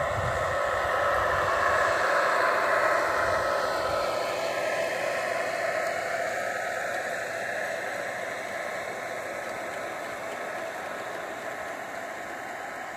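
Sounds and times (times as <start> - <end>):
model train rolling on track: 0.0 - 12.9.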